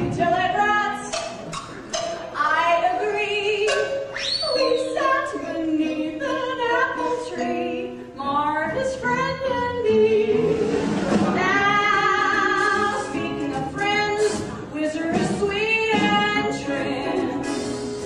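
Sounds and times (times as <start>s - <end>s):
woman singing with vibrato: 0.0s - 1.2s, 2.4s - 18.0s.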